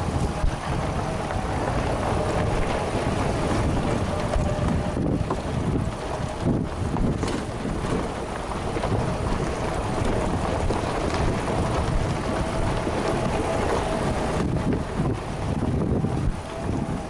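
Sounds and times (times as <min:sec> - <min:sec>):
off-road vehicle rumbling: 0:00.0 - 0:17.0
wind buffeting microphone: 0:00.0 - 0:17.0.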